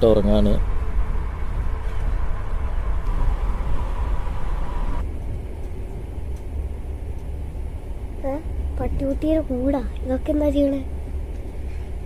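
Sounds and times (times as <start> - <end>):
faint steady whine: 0.0 - 12.0
train rumble inside carriage: 0.0 - 12.0.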